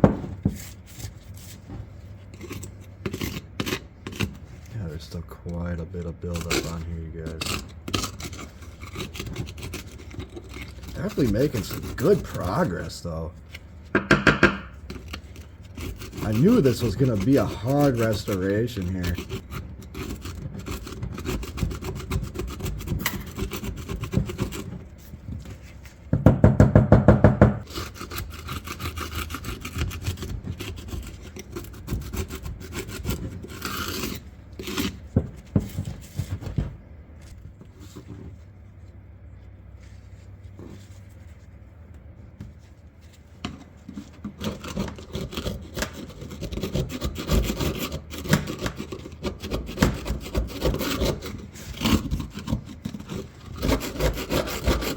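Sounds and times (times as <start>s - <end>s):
scraping rust off steel: 0.4s - 26.1s, 27.6s - 38.9s, 42.7s - 54.9s.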